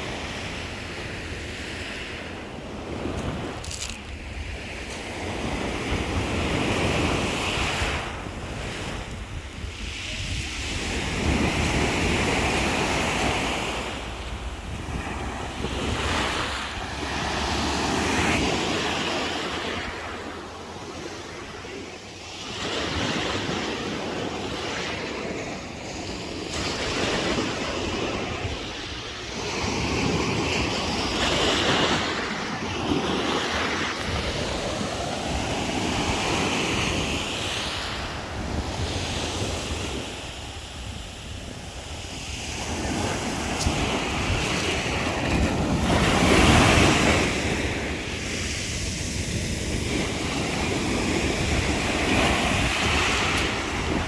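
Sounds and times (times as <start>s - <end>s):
waves breaking on shore: 0.0s - 54.0s
wind buffeting microphone: 0.0s - 54.0s.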